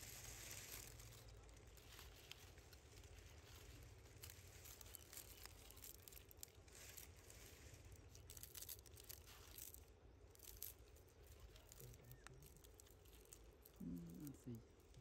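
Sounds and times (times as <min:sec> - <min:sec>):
dry leaves crinkling: 0:00.0 - 0:15.0
low background hum: 0:00.0 - 0:15.0.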